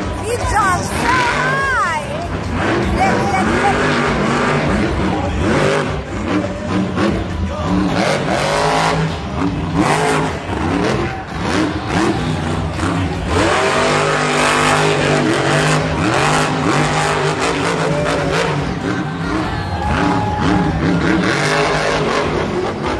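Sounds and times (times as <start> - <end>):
truck engine revving: 0.0 - 22.9.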